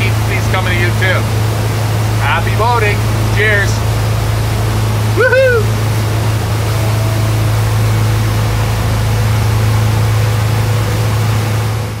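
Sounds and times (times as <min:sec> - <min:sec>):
boat engines low hum: 0:00.0 - 0:12.0
rush of wind and water: 0:00.0 - 0:12.0.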